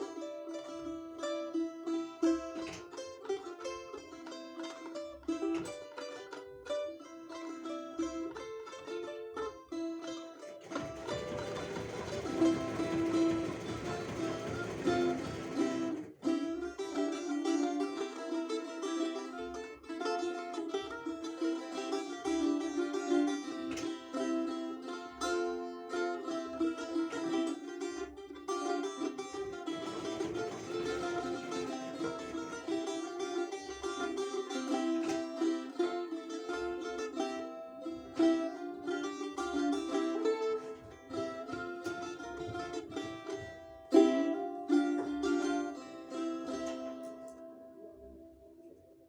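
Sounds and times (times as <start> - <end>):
balalaika folk tune: 0.0 - 49.0.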